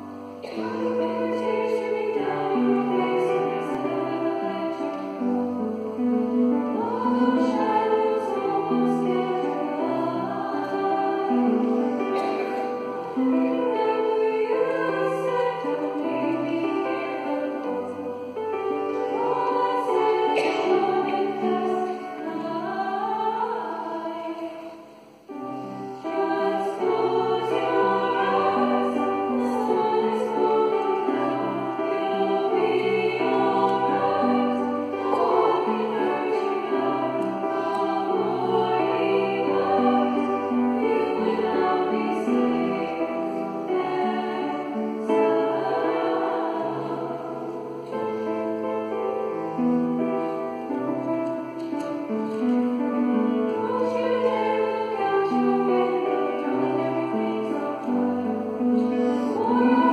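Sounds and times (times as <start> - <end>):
women's choir singing in harmony: 0.0 - 59.9.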